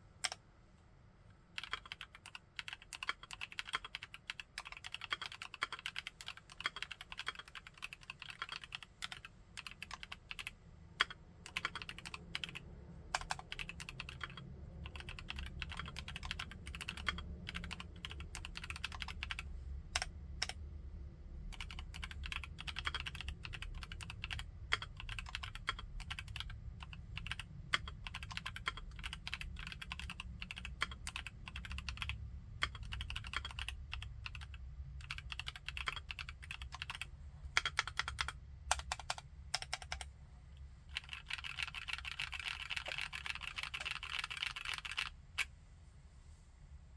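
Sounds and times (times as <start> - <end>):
mechanical keyboard typing: 1.6 - 20.6, 21.5 - 40.1, 40.9 - 45.5.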